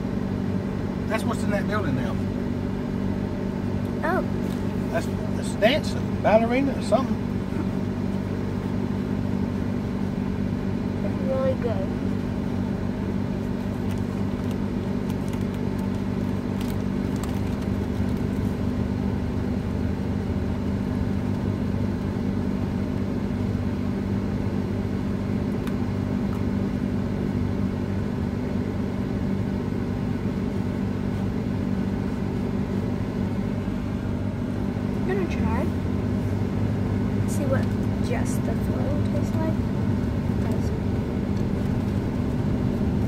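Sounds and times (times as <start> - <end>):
car engine hum: 0.0 - 43.0
road noise: 0.0 - 43.0.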